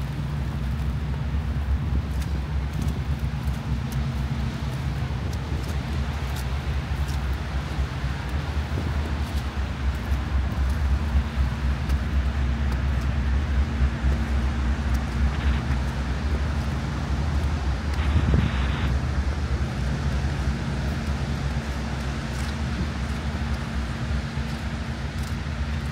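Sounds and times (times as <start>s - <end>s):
city traffic: 0.0s - 25.9s
wind buffeting microphone: 0.4s - 25.9s.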